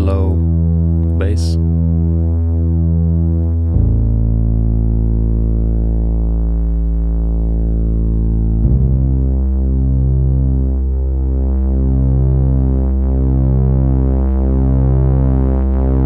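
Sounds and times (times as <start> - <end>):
low synth bass notes: 0.0 - 16.0.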